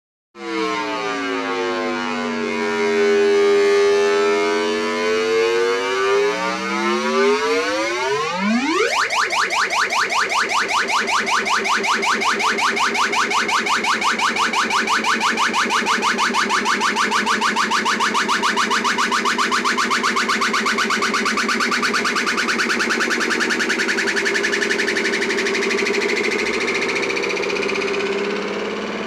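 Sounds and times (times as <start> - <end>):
electronic tones sweeping in pitch: 0.4 - 29.0
pulsing electronic warble: 0.4 - 29.0.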